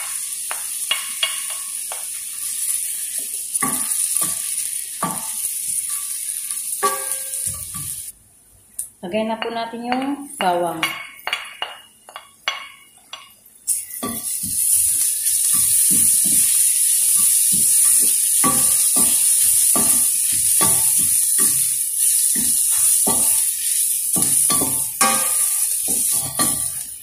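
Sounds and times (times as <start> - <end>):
onion frying in hot oil: 0.0 - 8.2, 11.1 - 27.0.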